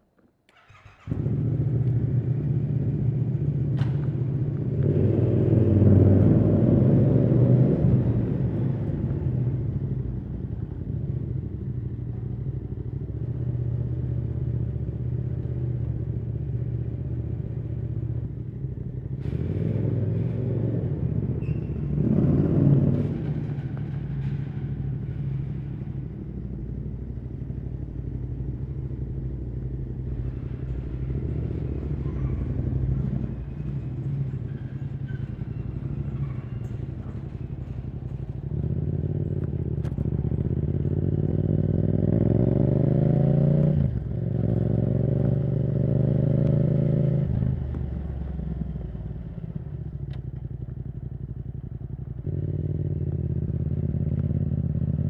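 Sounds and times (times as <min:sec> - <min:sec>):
motorcycle engine revving: 0:00.5 - 0:09.9, 0:16.6 - 0:37.4, 0:38.0 - 0:55.0.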